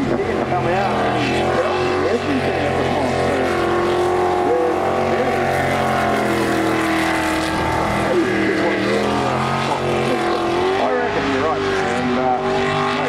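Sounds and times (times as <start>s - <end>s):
jet boat engine running hard: 0.0s - 13.0s.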